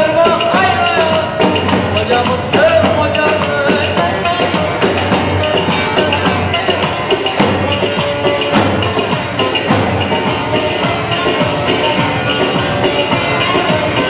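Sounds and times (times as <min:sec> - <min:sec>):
bass drumbeat: 0:00.0 - 0:14.0
folk dance tune over loudspeakers: 0:00.0 - 0:14.0.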